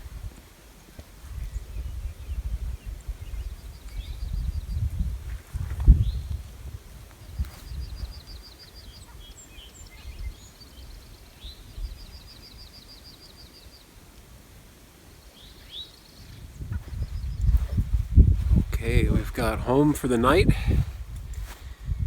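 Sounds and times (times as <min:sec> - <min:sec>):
wind rumbling on microphone: 0:00.0 - 0:12.3, 0:15.5 - 0:22.0.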